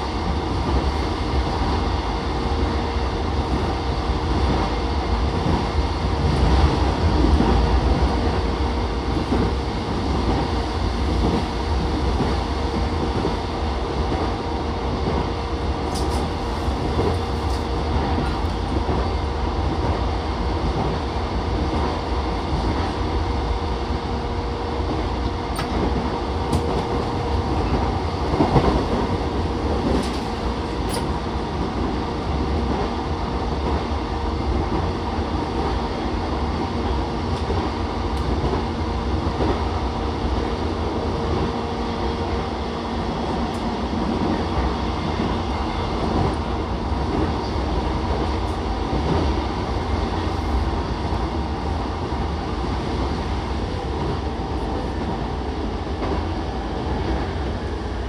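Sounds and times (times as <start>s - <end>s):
steady train hum: 0.0s - 58.0s
train wheels rumbling on rail: 0.0s - 58.0s.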